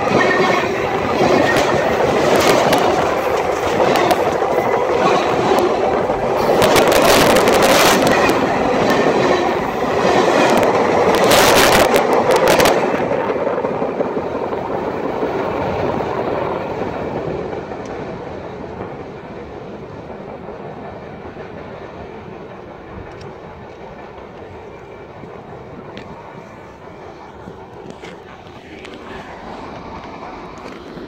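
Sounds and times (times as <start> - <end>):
train wheels rumbling on rail: 0.0 - 31.0
wheels clacking over rail joints: 0.0 - 31.0.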